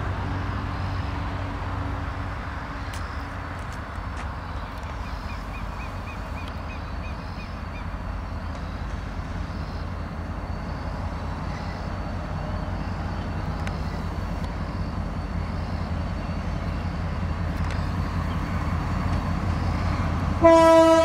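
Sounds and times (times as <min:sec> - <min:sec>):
diesel locomotive rumble: 0:00.0 - 0:21.0.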